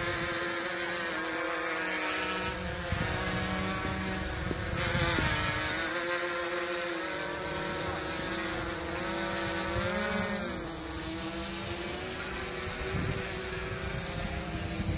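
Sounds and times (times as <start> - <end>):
drone propellers buzzing: 0.0 - 14.9.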